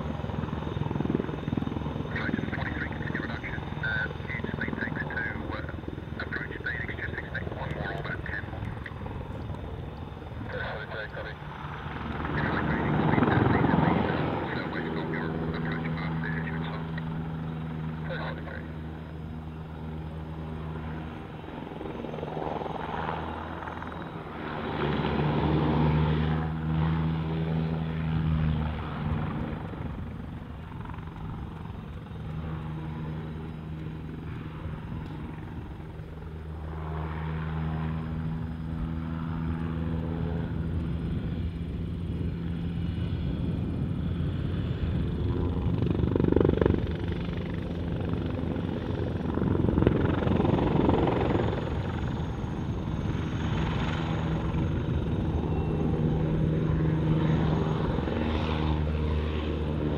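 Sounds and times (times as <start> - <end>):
helicopter rotors thrumming: 0.0 - 59.9.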